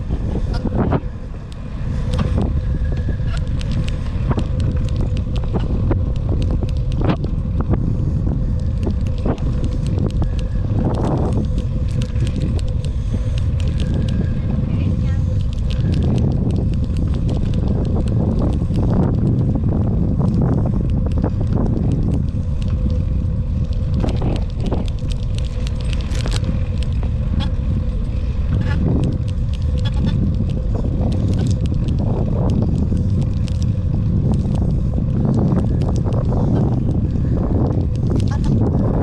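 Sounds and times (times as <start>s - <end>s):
bicycle rattles and clicks: 0.0s - 39.0s
road vibration and wind rumble: 0.0s - 39.0s.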